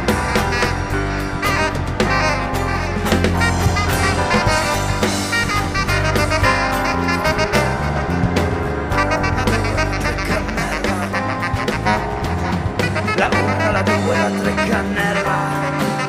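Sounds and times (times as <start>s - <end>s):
band playing: 0.0s - 16.0s
saxophone melody: 0.0s - 16.0s.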